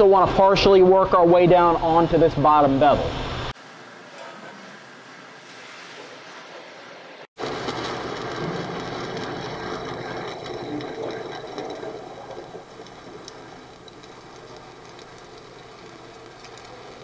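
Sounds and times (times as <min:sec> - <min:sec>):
welding arc crackling hiss: 0:02.3 - 0:17.0.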